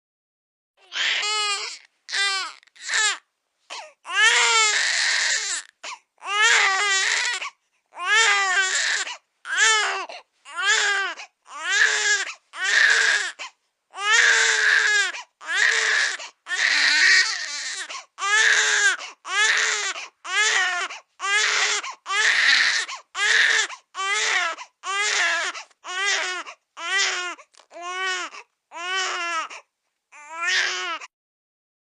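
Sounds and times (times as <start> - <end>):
infant crying: 0.8 - 31.1.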